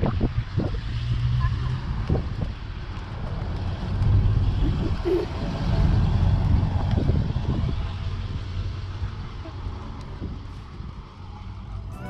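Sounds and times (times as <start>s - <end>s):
rumble of road vehicles: 0.0s - 12.0s.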